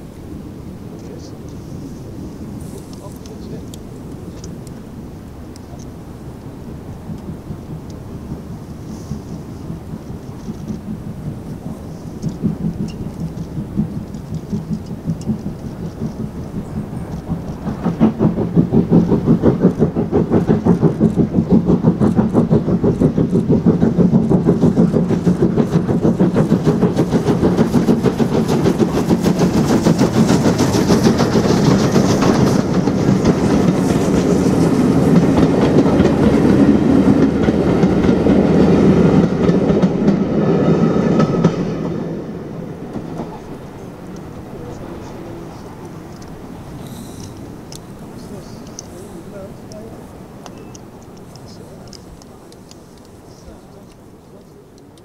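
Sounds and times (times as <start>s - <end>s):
steam locomotive exhaust beats: 0.0s - 55.0s
train running past: 0.0s - 55.0s.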